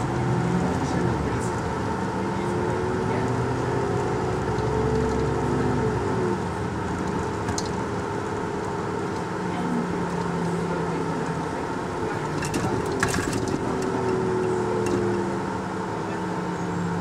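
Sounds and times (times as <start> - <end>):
bus diesel engine with compressor: 0.0 - 17.0.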